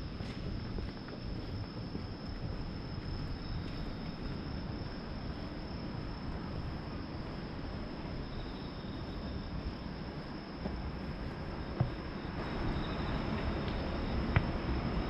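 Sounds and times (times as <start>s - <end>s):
crickets trilling: 0.0s - 15.0s
faint insect trill: 0.0s - 15.0s.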